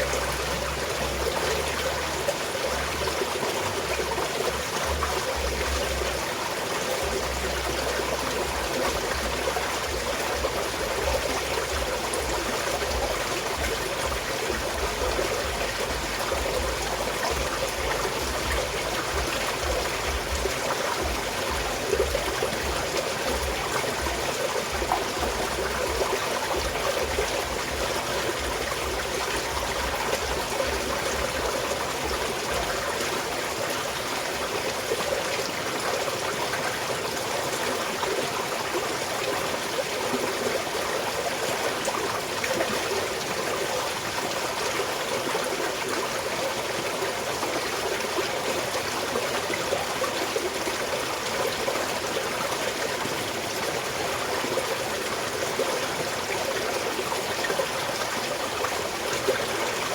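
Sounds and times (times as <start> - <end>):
stream flowing and trickling: 0.0 - 59.9.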